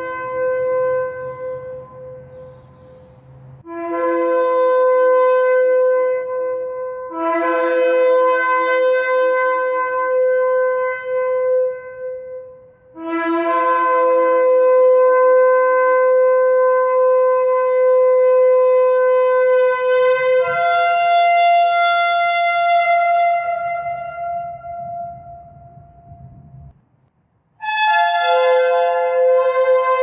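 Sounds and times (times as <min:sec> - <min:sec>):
shofar blasts: 0:00.0 - 0:26.6, 0:27.6 - 0:30.0.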